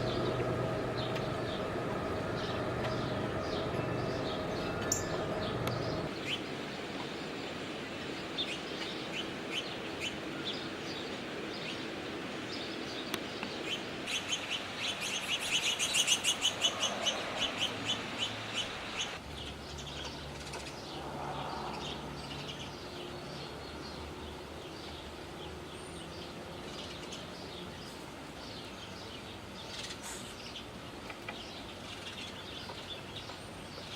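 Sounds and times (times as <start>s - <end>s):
small songbirds chirping: 0.0s - 33.9s.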